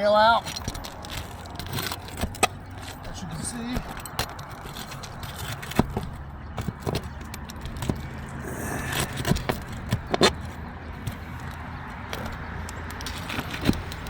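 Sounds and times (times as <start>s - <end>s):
sharp metal clicks and knocks: 0.3s - 14.0s
shingles scraping: 0.4s - 12.4s.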